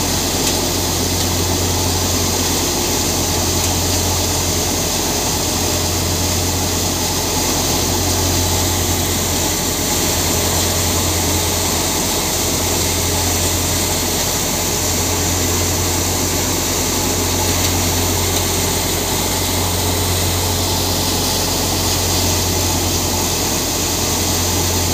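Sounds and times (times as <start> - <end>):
tractor engine hum: 0.0 - 24.9.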